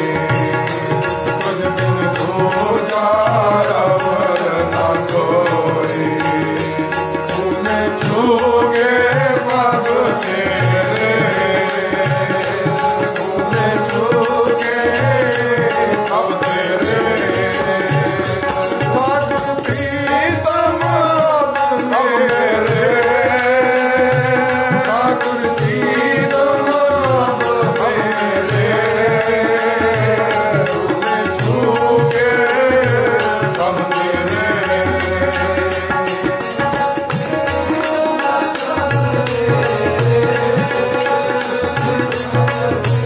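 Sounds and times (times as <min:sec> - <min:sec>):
harmonium: 0:00.0 - 0:43.0
men singing a devotional hymn: 0:00.0 - 0:43.0
tabla beat: 0:00.0 - 0:43.0.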